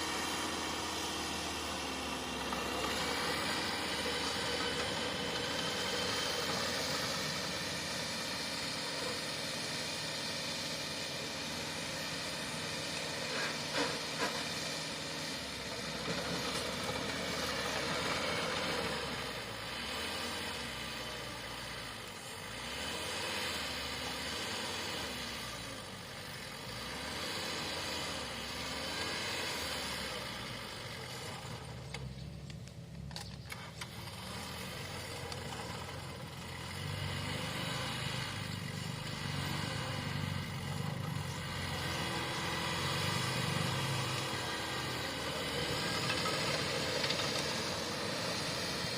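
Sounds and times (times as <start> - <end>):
bulldozer diesel engine working: 0.0 - 48.9.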